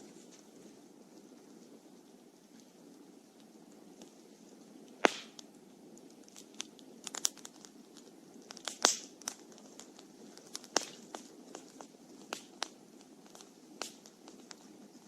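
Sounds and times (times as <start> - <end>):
low steady hiss: 0.0 - 15.0
wood fire crackling and popping: 0.0 - 15.0.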